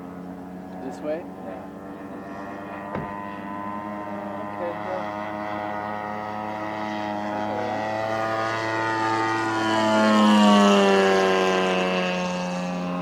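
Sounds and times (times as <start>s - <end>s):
model plane engine running: 0.0s - 13.0s
propeller drone: 0.0s - 13.0s.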